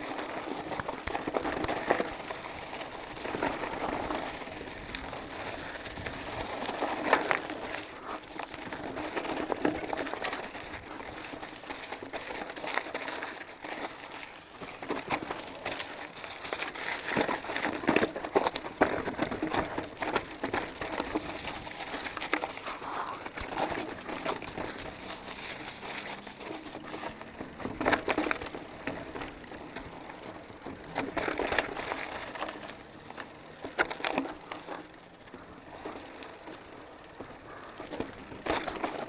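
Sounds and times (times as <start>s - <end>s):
bike knocking on rocks: 0.0s - 39.0s
bike rattling: 0.0s - 39.0s
tyres crunching over stones: 0.0s - 39.0s.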